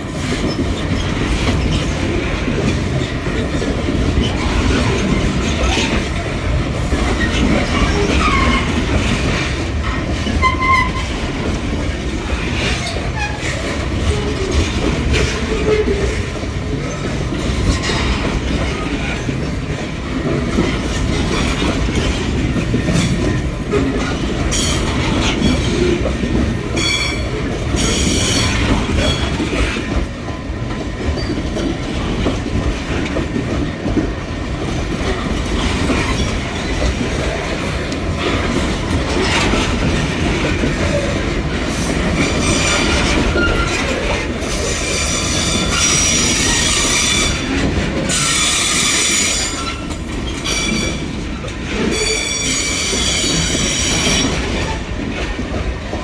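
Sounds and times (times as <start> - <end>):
wheels squealing on rails: 0.0 - 30.0, 34.9 - 56.0
freight train rumbling: 0.0 - 56.0.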